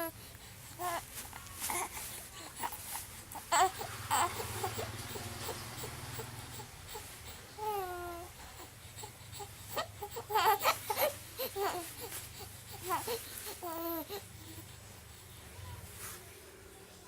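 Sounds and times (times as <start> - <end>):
baby crying and whimpering: 0.8 - 14.6.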